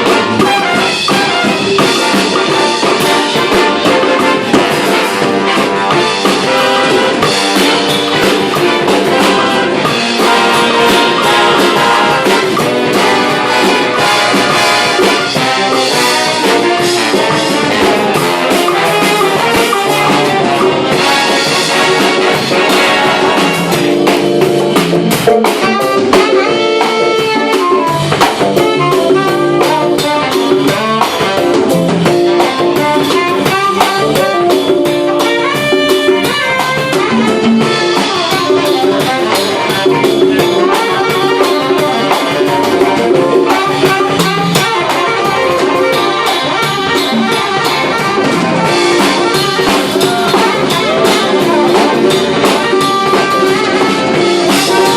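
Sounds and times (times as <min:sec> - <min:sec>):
drum kit: 0:00.0 - 0:54.9
saxophones: 0:00.0 - 0:54.9
trumpets: 0:00.0 - 0:54.9.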